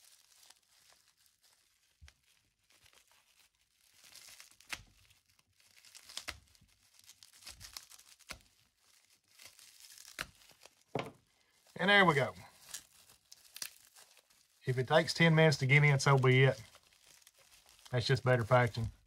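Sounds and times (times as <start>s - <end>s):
bubble wrap crinkling and tearing: 0.0s - 19.0s.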